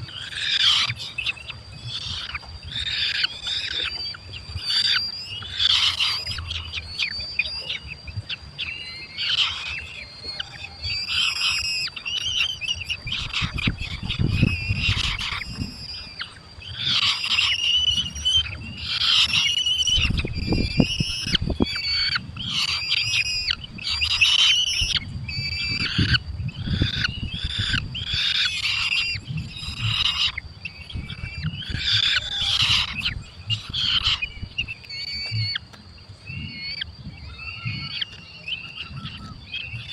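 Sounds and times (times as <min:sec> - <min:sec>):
falcon chicks calling: 0:00.0 - 0:39.9
thin steady high tone: 0:00.0 - 0:39.9.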